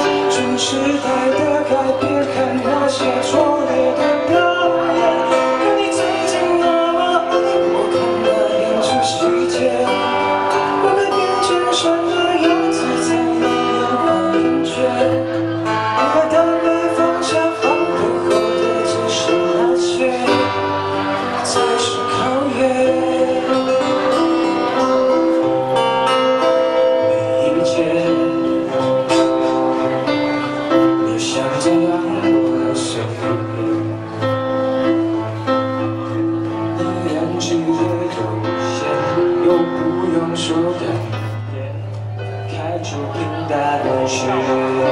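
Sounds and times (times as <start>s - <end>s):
live pop band playing: 0.0s - 44.9s
man singing: 0.0s - 44.9s.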